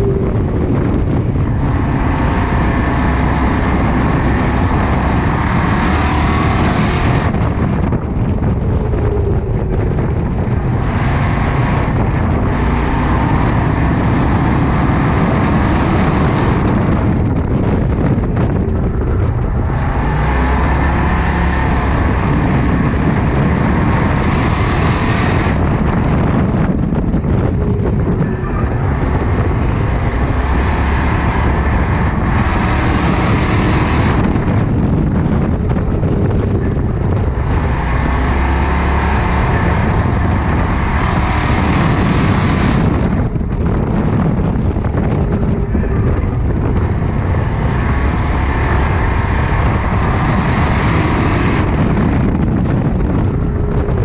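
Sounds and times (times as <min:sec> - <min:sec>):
race car engine at full throttle: 0:00.0 - 0:54.0.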